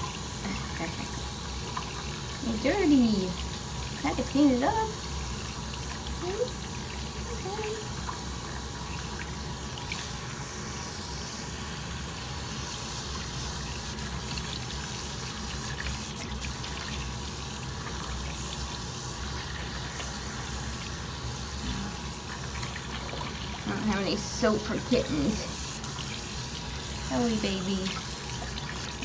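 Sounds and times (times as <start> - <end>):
water running from a tap: 0.0 - 29.0.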